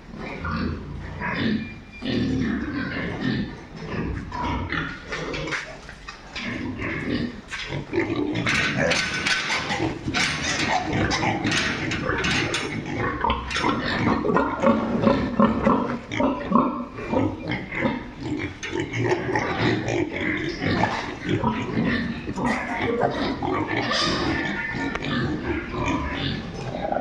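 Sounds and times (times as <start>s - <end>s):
pigs grunting: 0.0s - 27.0s.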